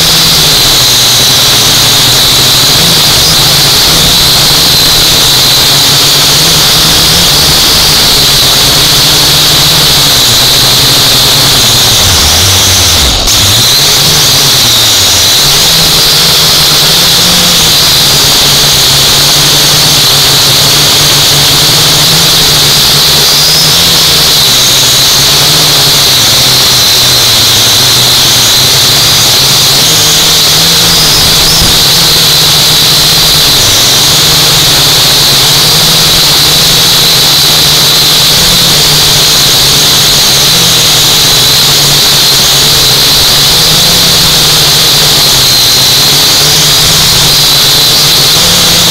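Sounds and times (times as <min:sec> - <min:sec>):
quadcopter motors whining: 0:00.0 - 0:48.9.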